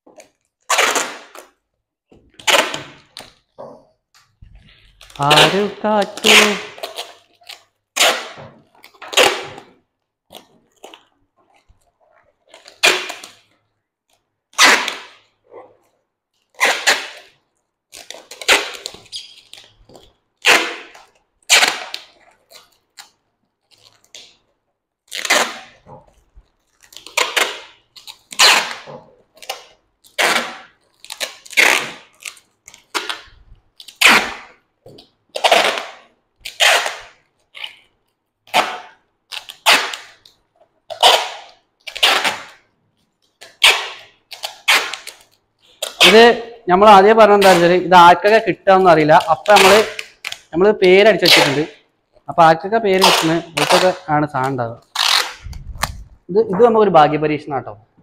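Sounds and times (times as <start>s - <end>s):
packing tape ripping off roll: 0.1s - 1.6s, 2.2s - 52.2s, 52.9s - 56.3s.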